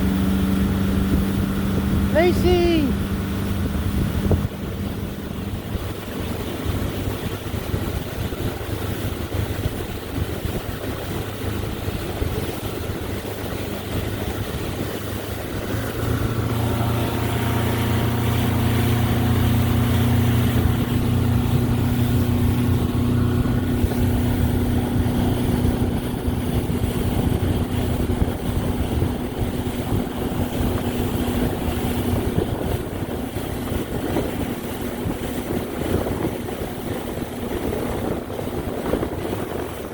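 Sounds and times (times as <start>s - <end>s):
motorboat engine running: 0.0s - 39.9s
water and wind hiss: 0.0s - 39.9s.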